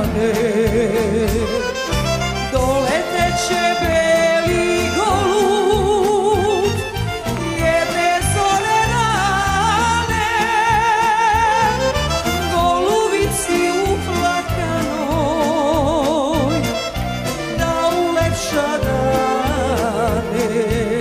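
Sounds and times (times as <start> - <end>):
band bass and drum beat: 0.0 - 21.0
woman singing with vibrato: 0.0 - 21.0.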